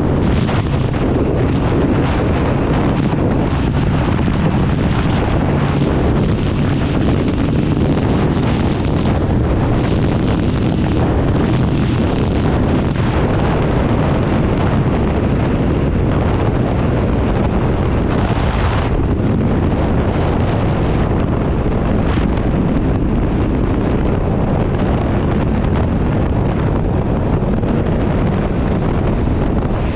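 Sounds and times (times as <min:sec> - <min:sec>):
motorcycle engine running: 0:00.0 - 0:29.9
wind buffeting microphone: 0:00.0 - 0:29.9.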